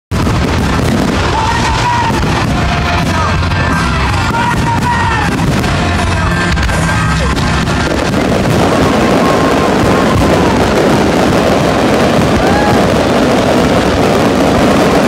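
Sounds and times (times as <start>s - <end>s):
fireworks bangs and crackles: 0.1s - 15.0s.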